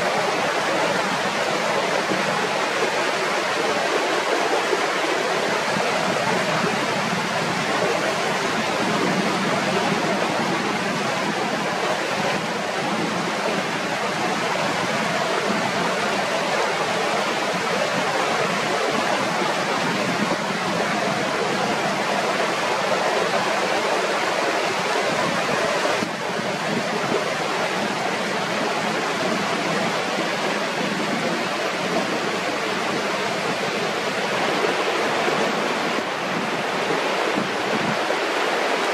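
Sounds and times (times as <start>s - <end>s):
mountain river rushing: 0.0s - 38.9s.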